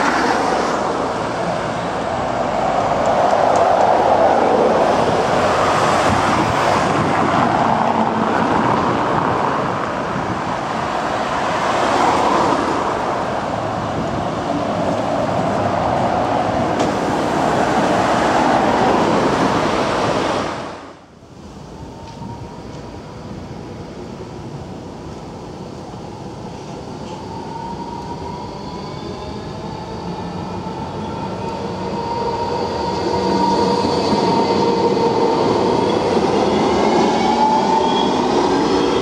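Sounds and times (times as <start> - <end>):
city buses passing: 0.0 - 39.0
street noise: 0.0 - 39.0.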